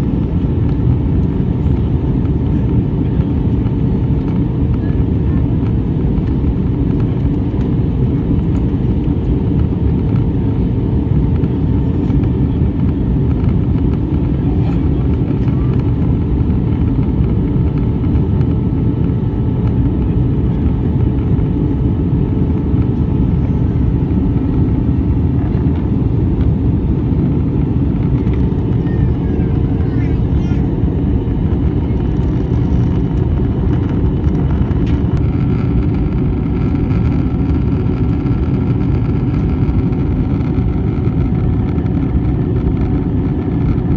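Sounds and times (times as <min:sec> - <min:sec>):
moving vehicle rumble: 0:00.0 - 0:43.9.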